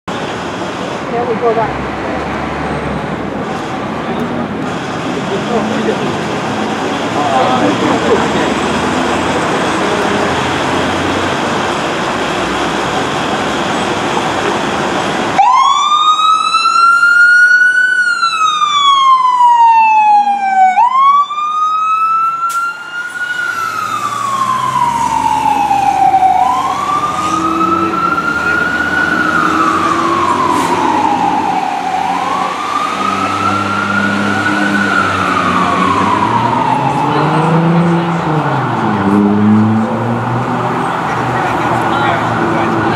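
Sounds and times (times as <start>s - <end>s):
traffic noise: 0.1s - 42.9s
fire engine siren wailing: 4.7s - 42.9s.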